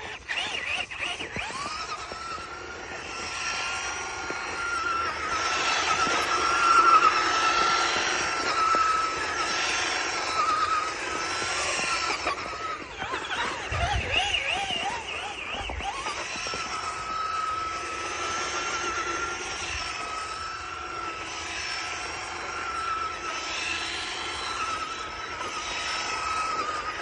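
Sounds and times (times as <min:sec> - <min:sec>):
electric rc car motor whining: 0:00.0 - 0:27.0.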